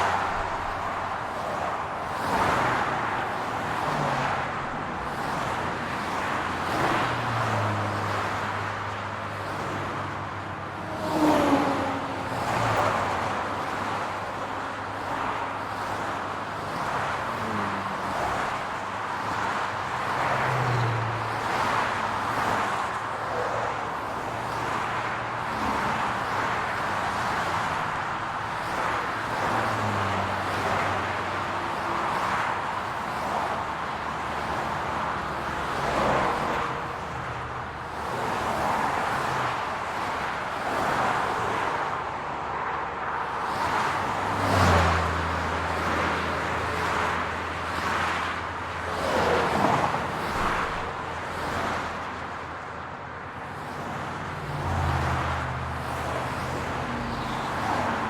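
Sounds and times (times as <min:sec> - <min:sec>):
car engines humming: 0:00.0 - 0:58.0
cars passing by: 0:00.0 - 0:58.0
tyre and road noise: 0:00.0 - 0:58.0.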